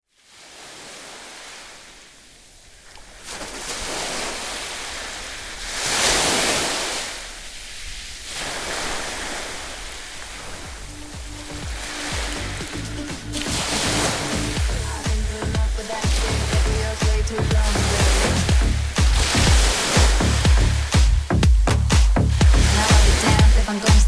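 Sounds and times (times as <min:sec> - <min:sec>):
ocean surf washing onto beach: 0:00.2 - 0:24.0.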